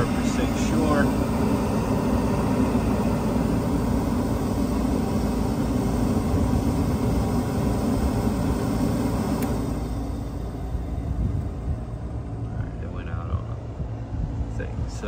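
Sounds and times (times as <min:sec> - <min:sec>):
furnace blower humming: 0:00.0 - 0:15.0.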